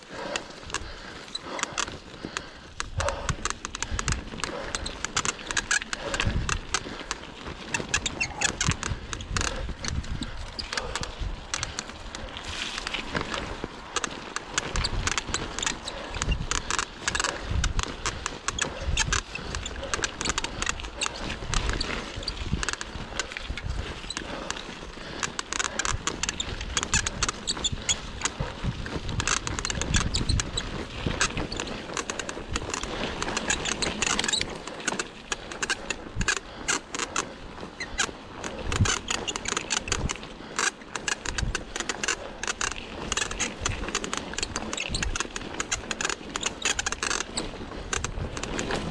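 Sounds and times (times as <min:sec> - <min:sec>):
mountain bike rattling and clicking: 0:00.0 - 0:48.9
wind rumbling on microphone: 0:00.0 - 0:48.9.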